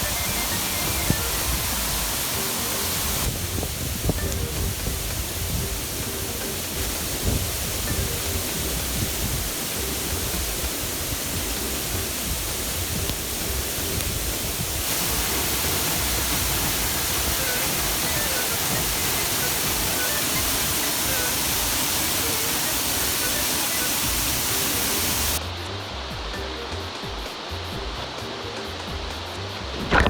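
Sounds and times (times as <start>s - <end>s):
faint music: 0.0s - 30.0s
waterfall roaring: 0.0s - 30.0s.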